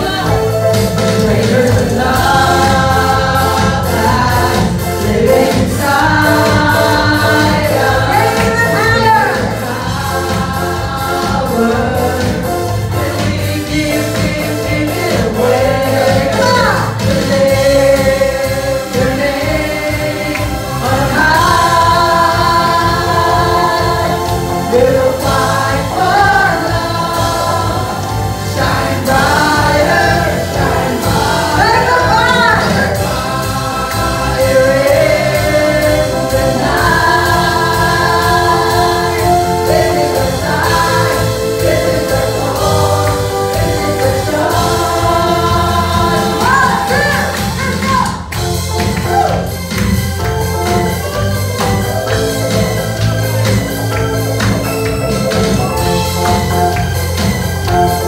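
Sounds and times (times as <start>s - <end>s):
amplified band with bass: 0.0s - 58.0s
voices singing together: 0.0s - 58.0s.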